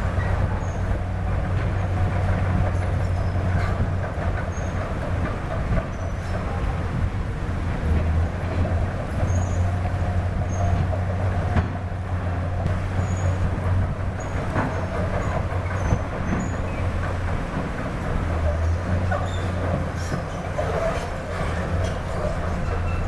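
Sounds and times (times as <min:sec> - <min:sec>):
diesel machinery droning: 0:00.0 - 0:23.0.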